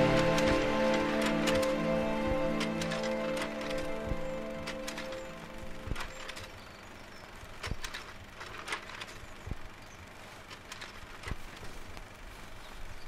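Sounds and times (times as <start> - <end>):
sharp mechanical clicks: 0.0 - 12.2
low steady hum: 0.0 - 13.0.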